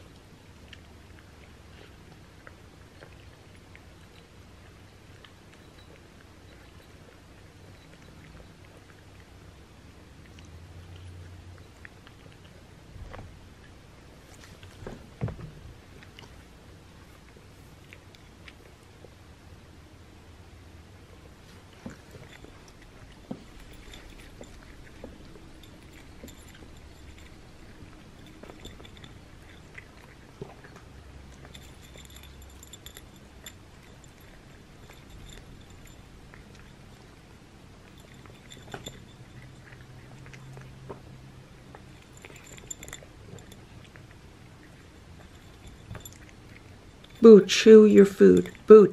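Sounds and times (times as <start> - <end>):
cat chewing dry kibble: 0.0 - 19.4, 21.0 - 48.9
low room hum: 0.0 - 48.9.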